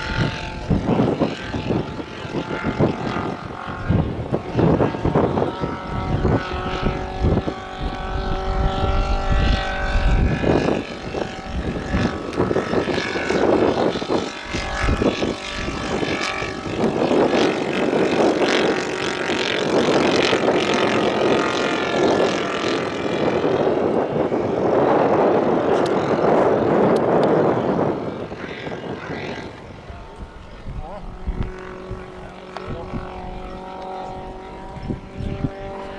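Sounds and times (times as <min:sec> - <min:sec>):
model aircraft engine and propeller: 0:00.0 - 0:35.9
wind buffeting microphone: 0:00.0 - 0:35.9.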